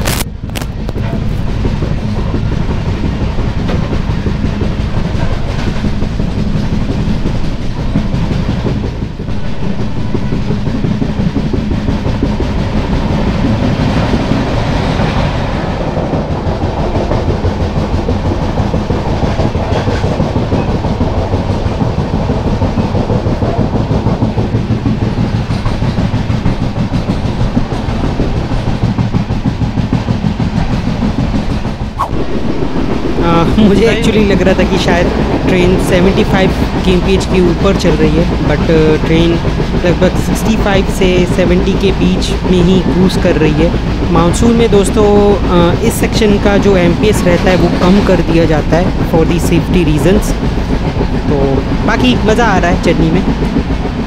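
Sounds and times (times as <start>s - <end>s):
train rumbling: 0.0s - 54.0s
wheels clattering on rails: 0.0s - 54.0s.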